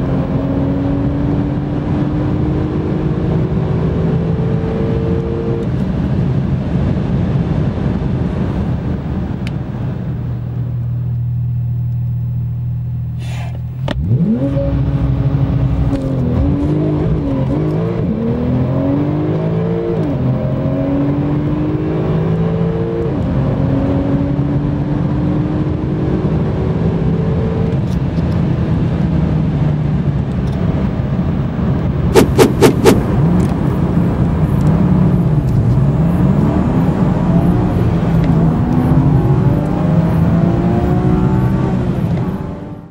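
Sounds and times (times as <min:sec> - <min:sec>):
car engine accelerating hard: 0:00.0 - 0:10.7, 0:13.1 - 0:42.9.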